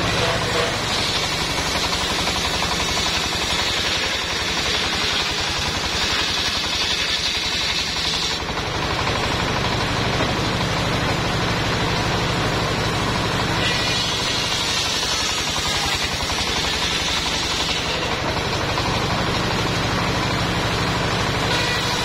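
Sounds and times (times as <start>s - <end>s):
engine chugging: 0.0s - 22.0s
saw blade whine: 0.0s - 22.0s.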